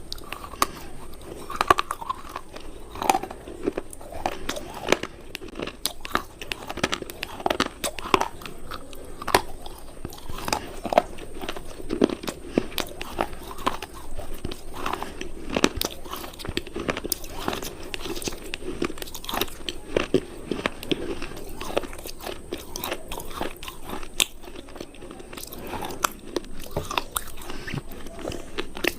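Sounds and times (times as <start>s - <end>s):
crumbly cubes crunching: 0.0s - 28.9s.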